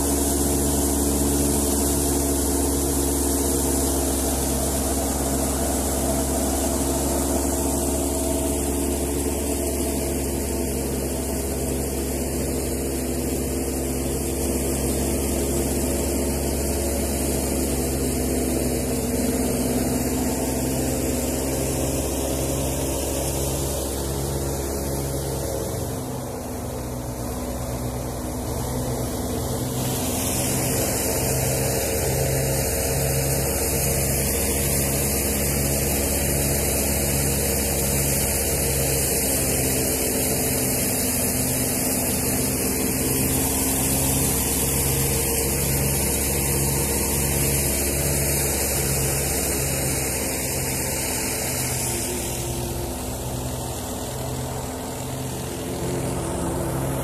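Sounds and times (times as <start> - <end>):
loud hiss: 0.0 - 57.0
thresher engine drone: 0.0 - 57.0.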